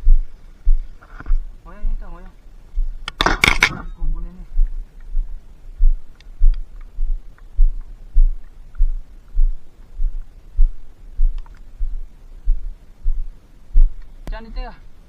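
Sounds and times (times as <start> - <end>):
footsteps walking: 0.0 - 3.0, 4.5 - 14.0.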